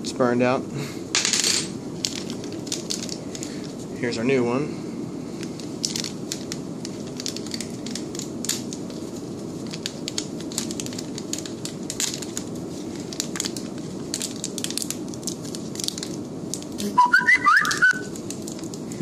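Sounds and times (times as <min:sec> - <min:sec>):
steady low hum: 0:00.0 - 0:19.0
crinkling of gloved hands handling bulb: 0:01.2 - 0:04.2, 0:05.2 - 0:16.8, 0:18.1 - 0:19.0.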